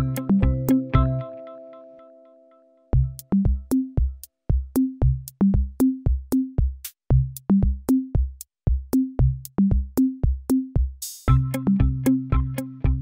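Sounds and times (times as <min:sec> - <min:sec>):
electronic music with drum machine: 0:00.0 - 0:01.4, 0:02.9 - 0:13.0.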